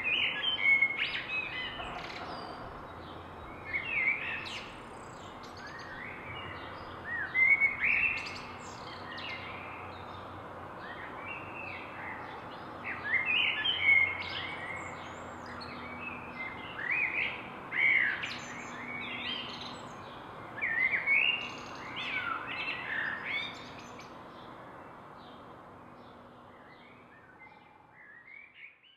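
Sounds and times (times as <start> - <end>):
songbirds chirping and singing: 0.0 - 28.9.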